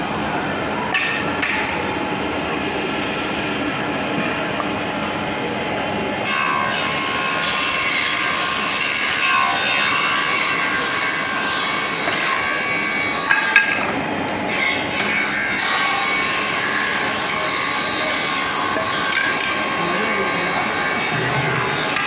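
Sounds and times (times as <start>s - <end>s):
planer machine whine: 1.8s - 22.0s.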